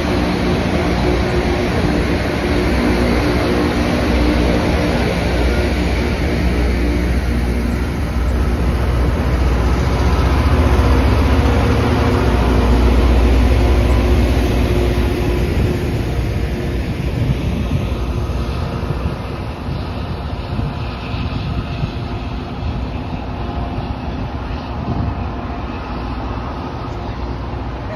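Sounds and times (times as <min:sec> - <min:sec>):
rail grinder train rumbling: 0:00.0 - 0:27.9.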